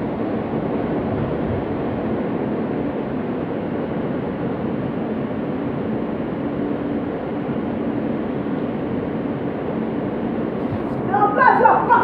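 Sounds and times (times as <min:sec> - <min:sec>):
subway car rumble and hiss: 0:00.0 - 0:12.0.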